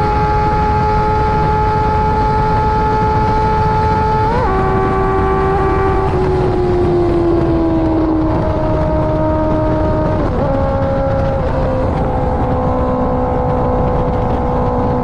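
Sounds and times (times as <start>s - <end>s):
motorcycle engine at high revs: 0.0s - 15.0s
wind rush: 0.0s - 15.0s.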